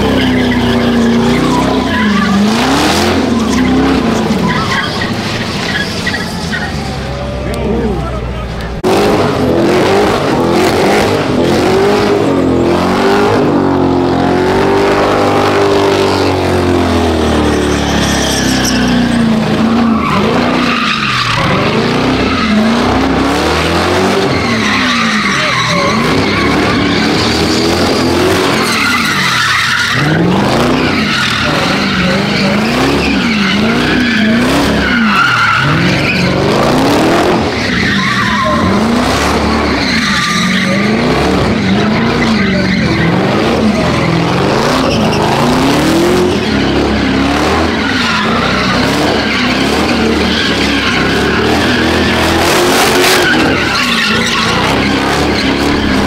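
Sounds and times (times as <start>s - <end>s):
car engine revving: 0.0s - 56.0s
tires squealing: 0.0s - 56.0s.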